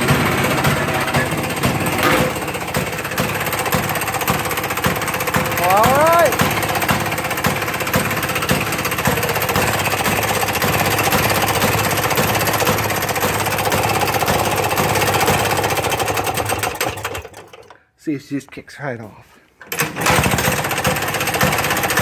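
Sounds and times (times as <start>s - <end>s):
two-stroke engine running: 0.0s - 17.8s, 19.7s - 22.0s.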